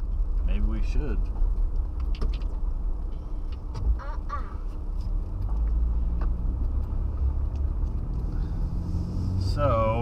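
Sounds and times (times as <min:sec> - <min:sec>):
car driving rumble: 0:00.0 - 0:10.0.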